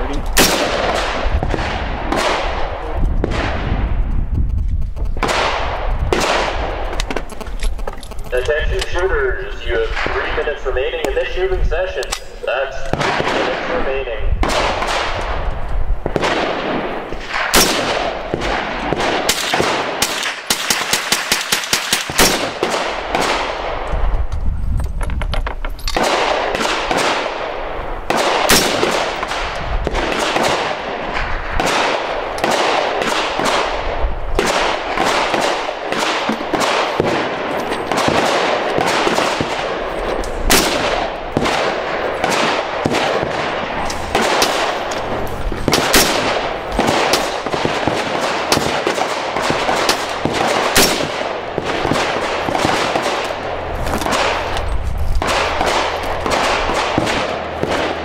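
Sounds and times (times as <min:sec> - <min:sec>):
gunshots: 0:00.0 - 0:24.0, 0:25.6 - 0:58.0.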